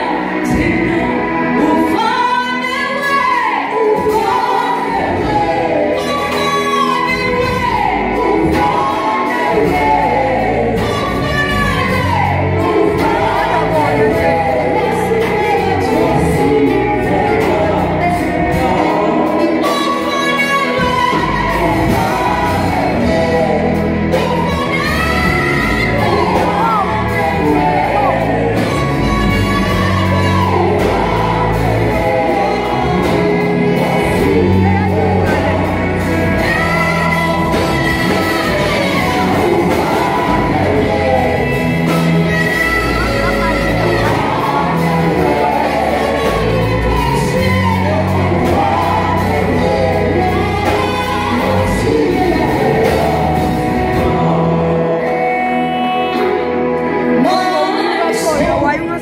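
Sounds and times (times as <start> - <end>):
amplified accompaniment with bass: 0.0 - 59.0
backing singers: 0.0 - 59.0
woman singing lead: 0.0 - 59.0.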